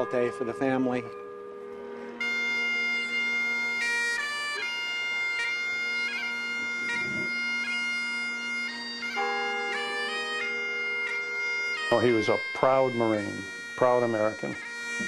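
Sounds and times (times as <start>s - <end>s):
bagpipes playing slow tune: 0.0s - 15.0s.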